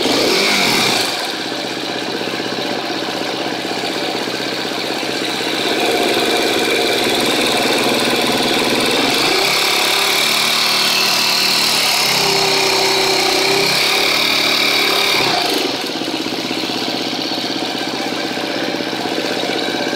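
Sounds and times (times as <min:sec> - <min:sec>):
engine ticking: 0:00.0 - 0:19.9
motorcycle engine idling and revving: 0:00.0 - 0:19.9.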